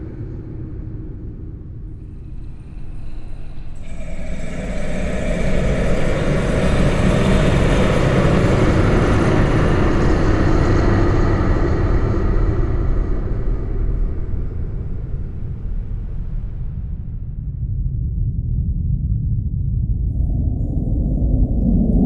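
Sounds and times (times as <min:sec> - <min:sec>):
spring rumbling drone: 0:00.0 - 0:17.7.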